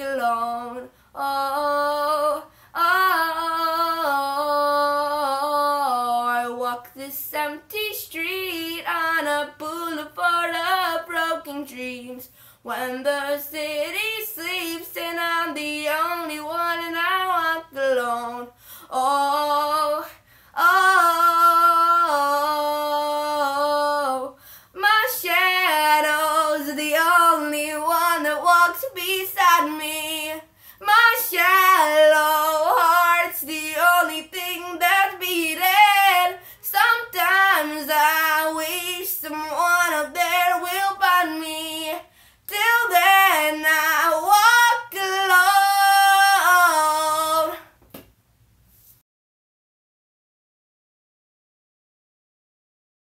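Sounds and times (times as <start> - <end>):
boy singing a cappella: 0.0 - 47.8.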